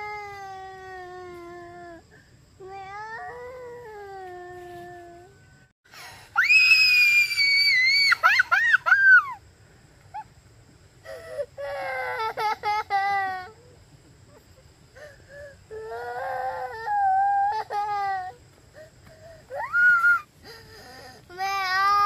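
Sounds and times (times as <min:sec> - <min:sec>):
girl screaming and sobbing: 0:00.0 - 0:05.3, 0:06.0 - 0:09.4, 0:11.0 - 0:13.7, 0:14.9 - 0:22.0.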